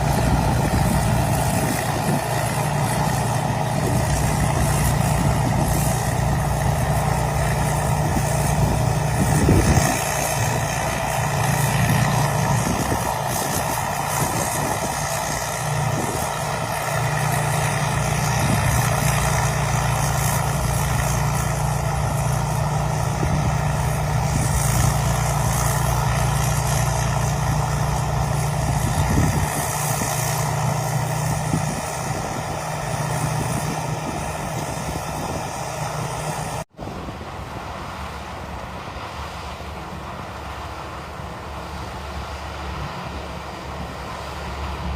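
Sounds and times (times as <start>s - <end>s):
combine harvester engine hum: 0.0s - 44.9s
machinery rushing noise: 0.0s - 44.9s.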